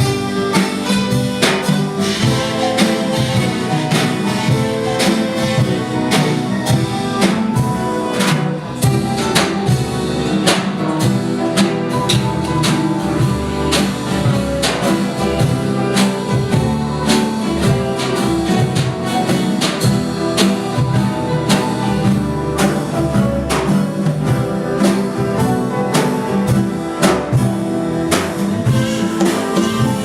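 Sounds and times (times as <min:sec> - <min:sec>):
drum kit beat: 0:00.0 - 0:30.0
guitar: 0:00.0 - 0:30.0
swing jazz band playing: 0:00.0 - 0:30.0.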